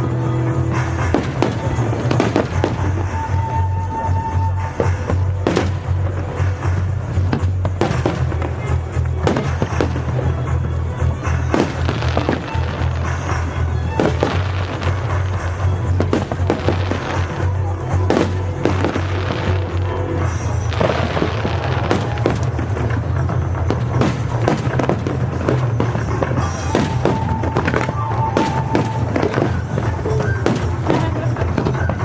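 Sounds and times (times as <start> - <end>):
fireworks bursting and crackling: 0.0 - 32.0
music playing: 0.0 - 32.0.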